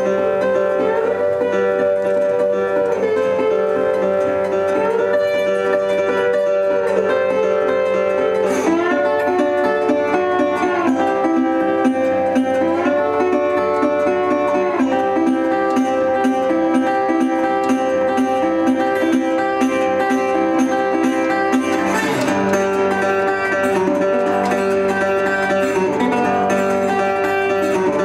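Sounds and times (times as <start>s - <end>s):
acoustic guitar with sliding notes: 0.0s - 28.0s.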